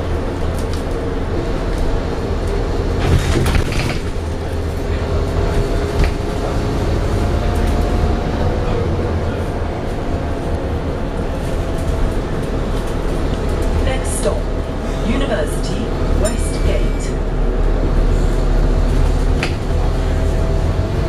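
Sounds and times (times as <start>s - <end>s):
diesel bus engine drone: 0.0s - 21.0s
road noise: 0.0s - 21.0s.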